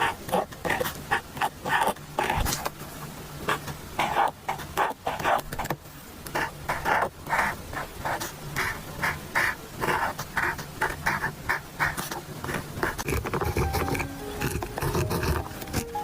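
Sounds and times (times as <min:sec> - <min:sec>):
pen scratching on paper: 0:00.0 - 0:02.6, 0:03.5 - 0:05.7, 0:06.3 - 0:16.0.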